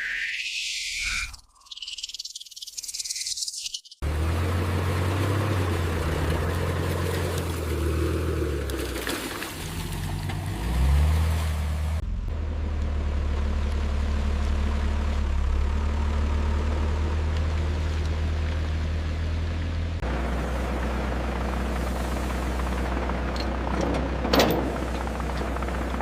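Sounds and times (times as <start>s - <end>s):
large vehicle engine droning: 4.0s - 26.0s.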